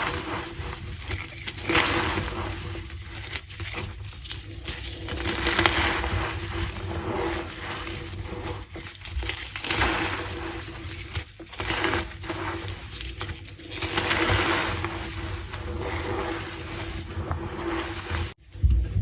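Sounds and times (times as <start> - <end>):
chalk being crushed squeaking: 0.0 - 18.4
sharp crackles: 0.0 - 18.6.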